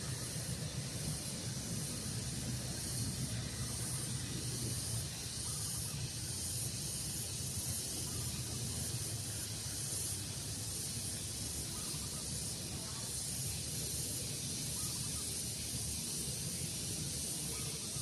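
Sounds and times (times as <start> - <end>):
high-pitched hiss: 0.0 - 18.0
low rumble of breeze: 0.0 - 18.0.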